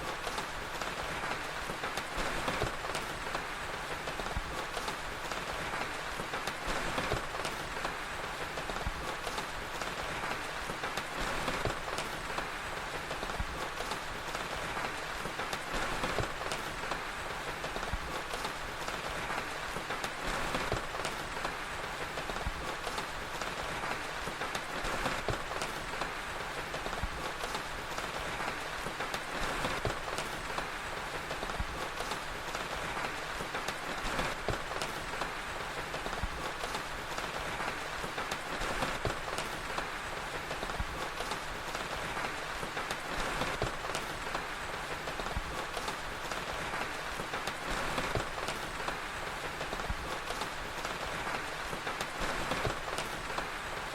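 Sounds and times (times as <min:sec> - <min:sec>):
steady rain: 0:00.0 - 0:53.9
wood fire crackling: 0:00.0 - 0:53.9.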